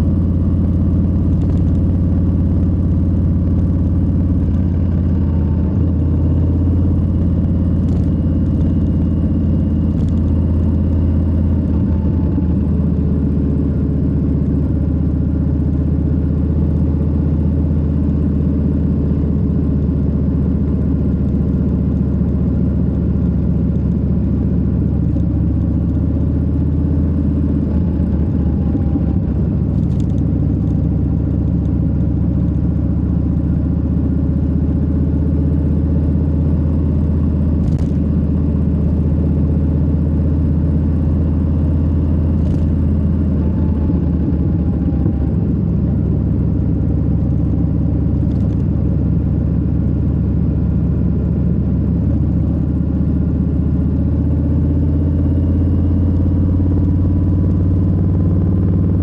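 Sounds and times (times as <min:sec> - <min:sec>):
motorcycle engine rumbling: 0:00.0 - 0:54.6.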